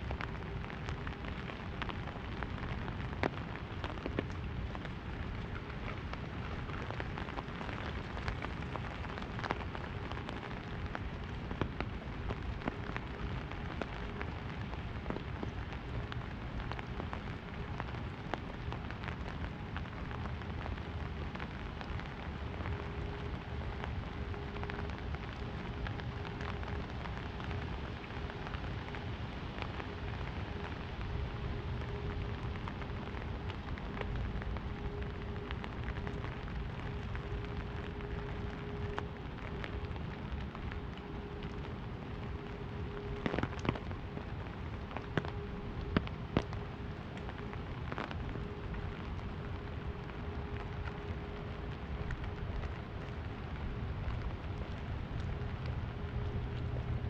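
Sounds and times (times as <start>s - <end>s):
rain on an umbrella: 0.0s - 57.0s.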